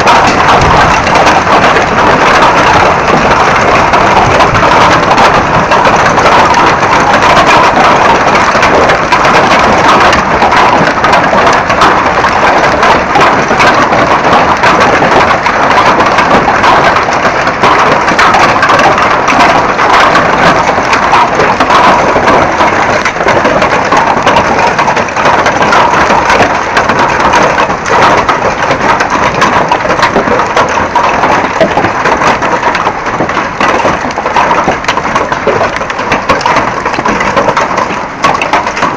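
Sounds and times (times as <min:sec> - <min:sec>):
hailstones clattering: 0:00.0 - 0:38.9.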